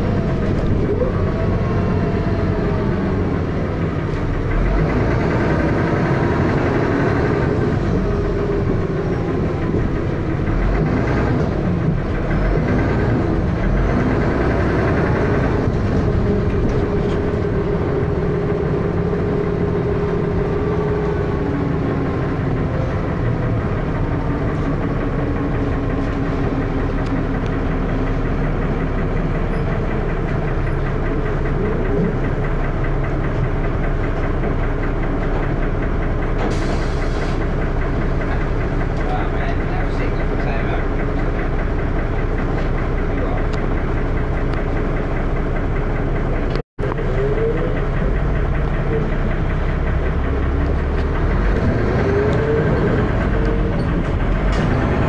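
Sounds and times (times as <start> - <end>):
bus engine running: 0.0 - 55.0
engine knocking: 0.0 - 55.0.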